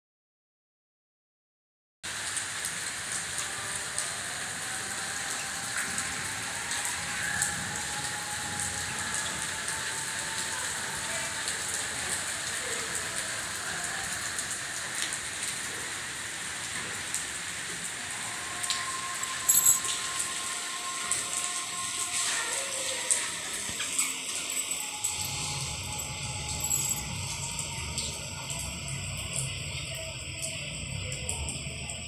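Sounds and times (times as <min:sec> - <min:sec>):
raindrops ticking on hard surfaces: 0:02.1 - 0:32.0
steady rain hissing: 0:02.1 - 0:32.0.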